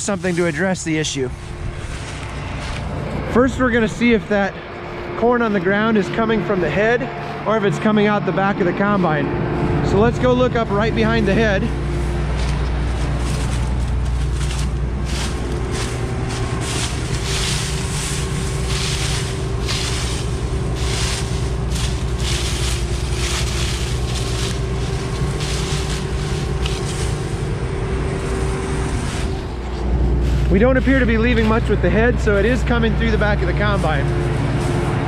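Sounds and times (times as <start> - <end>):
dry corn stalks rustling: 0.0 - 8.0, 9.6 - 35.0
diesel engine running: 0.0 - 35.0.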